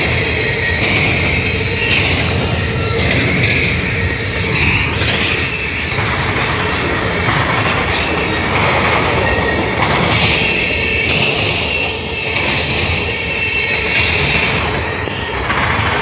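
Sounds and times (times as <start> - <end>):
train wheels rumbling and clattering: 0.0 - 16.0
high wheel squeal: 1.8 - 16.0.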